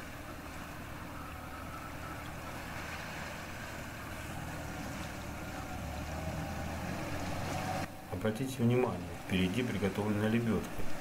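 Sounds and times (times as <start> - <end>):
water washing around van: 0.0 - 11.0.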